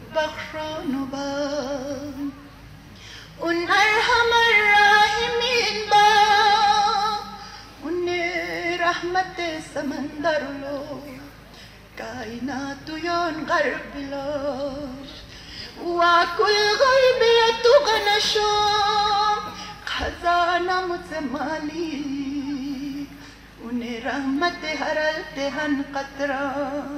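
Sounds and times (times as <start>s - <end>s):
woman singing a hymn: 0.0s - 26.9s.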